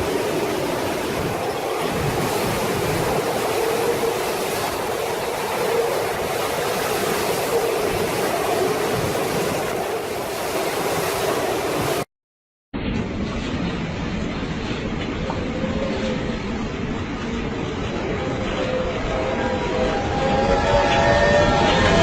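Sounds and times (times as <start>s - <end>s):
storm wind and water roaring: 0.0s - 12.1s, 12.8s - 22.0s.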